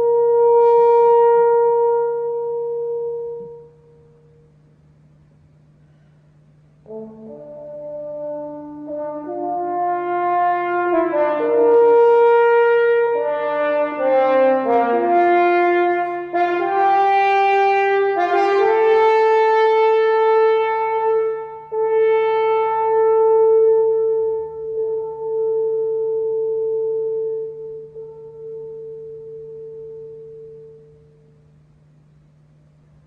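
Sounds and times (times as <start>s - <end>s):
french horn playing: 0.0s - 4.5s, 6.8s - 31.3s.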